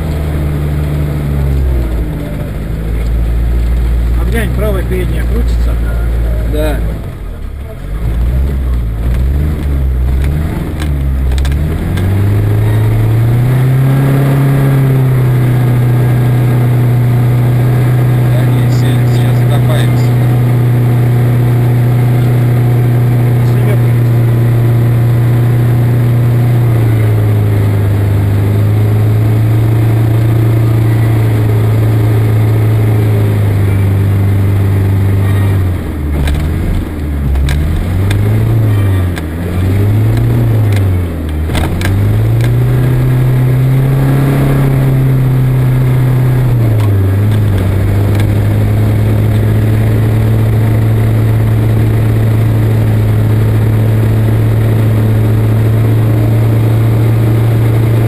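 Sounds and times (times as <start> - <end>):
engine running and revving: 0.0 - 58.0.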